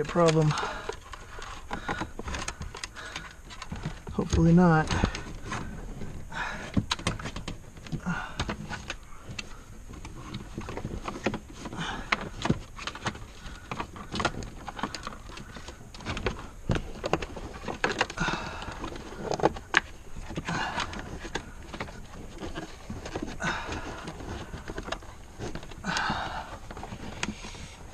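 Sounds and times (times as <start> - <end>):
clicks and knocks of car parts: 0.0 - 5.7, 6.3 - 27.9.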